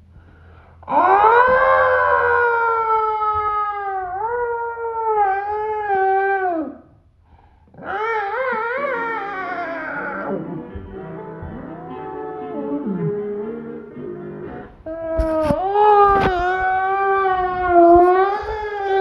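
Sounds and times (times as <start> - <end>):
voice-changed howling voice: 0.9 - 6.9, 7.7 - 13.9, 14.9 - 19.0.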